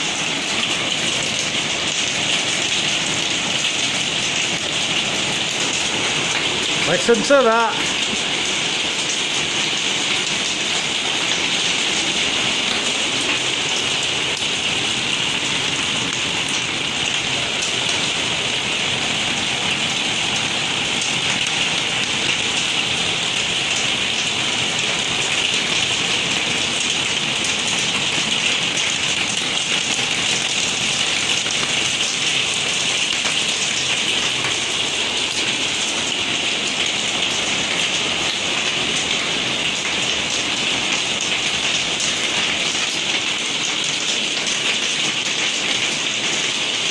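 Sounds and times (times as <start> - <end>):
hail drumming on plastic roof: 0.0 - 46.9.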